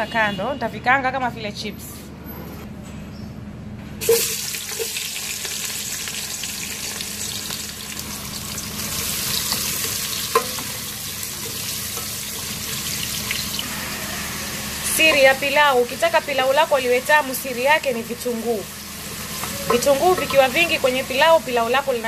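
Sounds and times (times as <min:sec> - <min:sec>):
onions sizzling in hot oil: 0:04.0 - 0:22.0.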